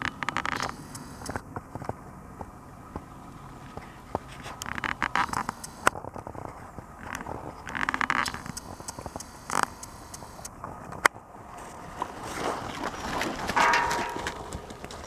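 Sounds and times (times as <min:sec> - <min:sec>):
horse hoofbeats trotting: 0:00.0 - 0:15.0.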